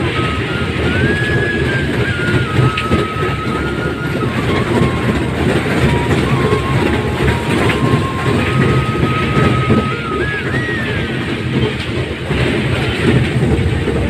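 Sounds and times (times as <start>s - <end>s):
thin high tune: 0.0s - 11.4s
ride cars rumbling on track: 0.0s - 14.0s.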